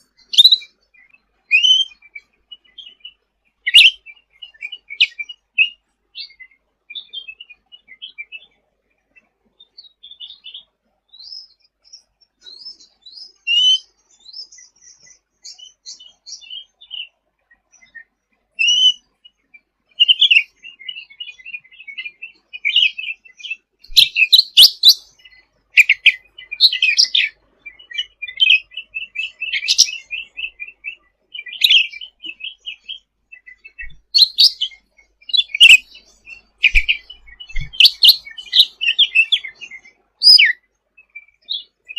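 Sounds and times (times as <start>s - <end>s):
sharp bird calls: 0.0s - 41.9s
songbird chattering and twittering: 0.0s - 41.9s.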